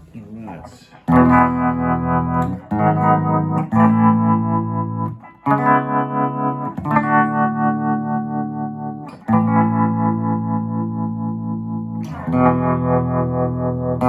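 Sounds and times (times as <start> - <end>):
electric guitar strummed chords: 0.9 - 14.0.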